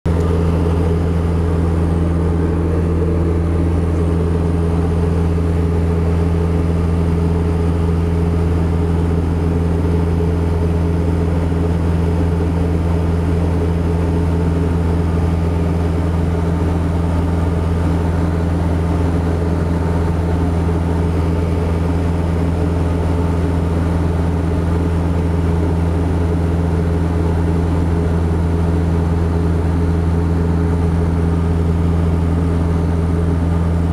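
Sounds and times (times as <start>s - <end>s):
light aircraft engine drone: 0.1s - 33.9s.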